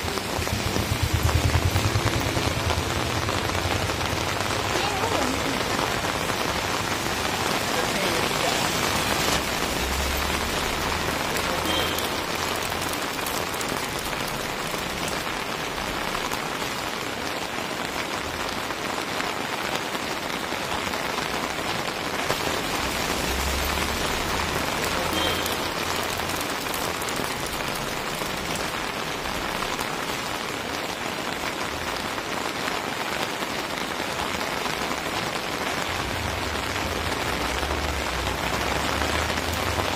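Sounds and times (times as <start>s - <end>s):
rain on wet pavement: 0.0s - 39.9s.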